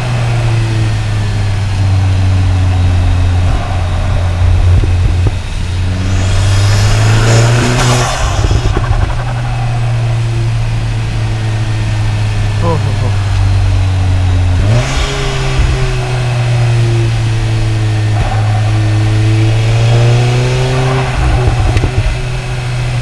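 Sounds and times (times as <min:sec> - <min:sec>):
car engine driving: 0:00.0 - 0:23.0
intake and turbo air rush: 0:00.0 - 0:23.0.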